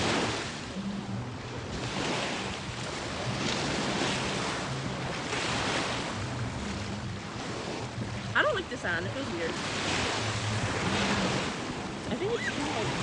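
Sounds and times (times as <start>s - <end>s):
ocean surf washing onto beach: 0.0s - 13.0s
wind buffeting microphone: 0.0s - 13.0s.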